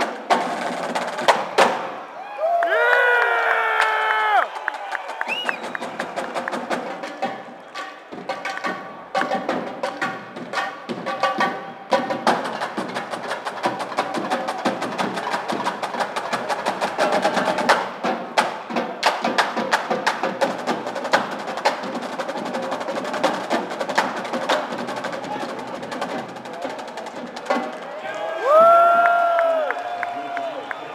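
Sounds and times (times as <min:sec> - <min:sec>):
marching drumline playing: 0:00.0 - 0:02.0, 0:04.5 - 0:29.0.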